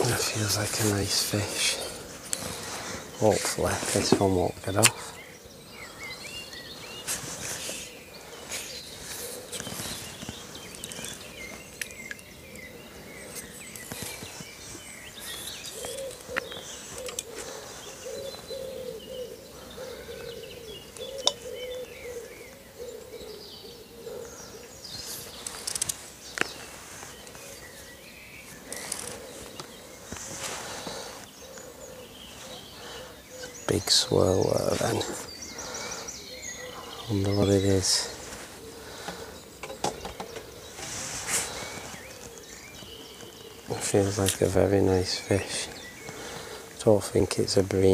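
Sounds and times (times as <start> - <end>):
birds singing and chirping: 0.0 - 47.9.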